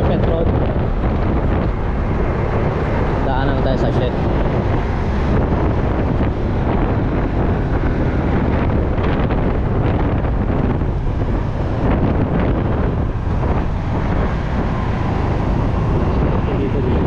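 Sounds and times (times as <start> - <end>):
motorcycle engine: 0.0 - 17.0
road noise: 0.0 - 17.0
wind buffeting microphone: 0.0 - 17.0.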